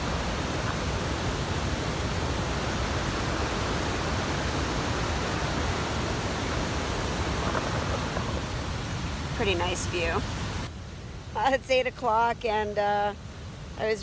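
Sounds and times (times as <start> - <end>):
waterfall and rapids rushing: 0.0 - 14.0.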